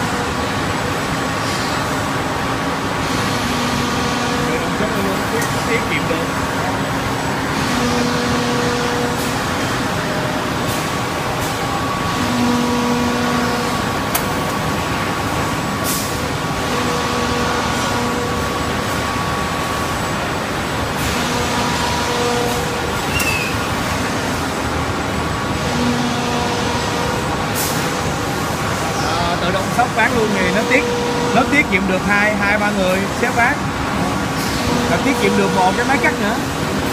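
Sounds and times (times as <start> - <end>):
gear motors humming: 0.0 - 36.9.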